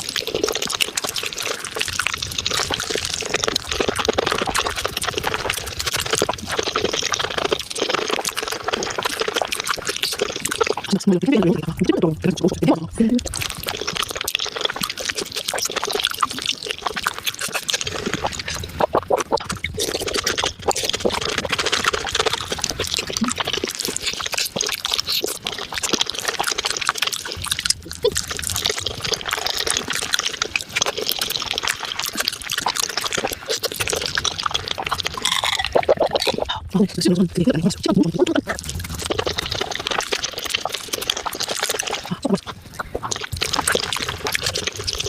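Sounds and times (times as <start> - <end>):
sped-up wet chewing: 0.0 - 45.0.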